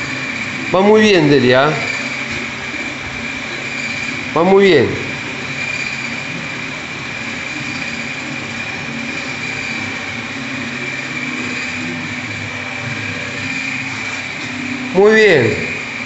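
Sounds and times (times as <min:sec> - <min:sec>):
high thin whine: 0:00.0 - 0:16.0
mechanical hum and hiss: 0:00.0 - 0:16.0.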